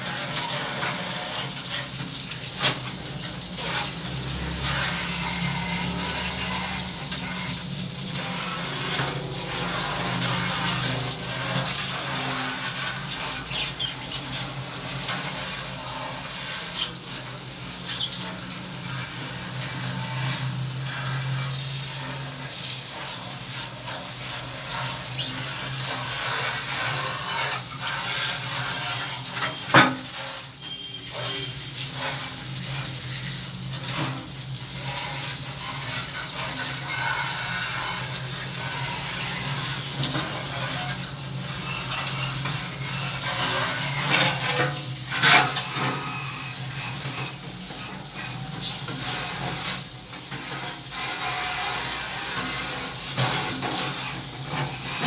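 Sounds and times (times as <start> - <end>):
water running: 0.0 - 55.0.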